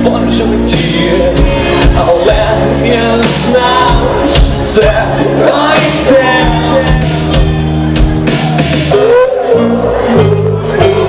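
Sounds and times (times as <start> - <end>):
rock band playing loudly: 0.0 - 11.0.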